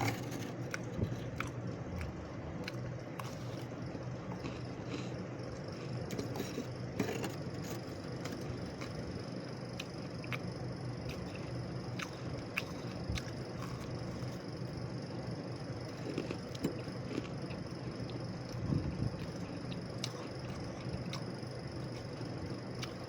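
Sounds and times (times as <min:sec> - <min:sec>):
frost being chewed: 0:00.0 - 0:14.8, 0:15.7 - 0:23.0.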